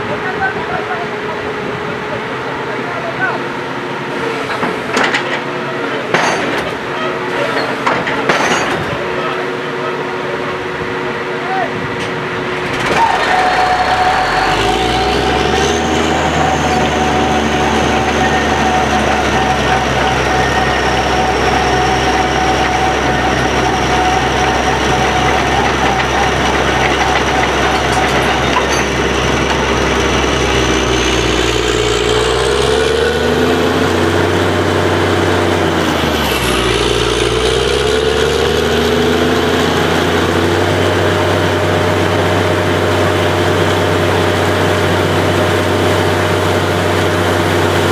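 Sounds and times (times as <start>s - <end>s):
drilling rig engine hum: 0.0s - 47.9s
high machinery whine: 0.0s - 47.9s.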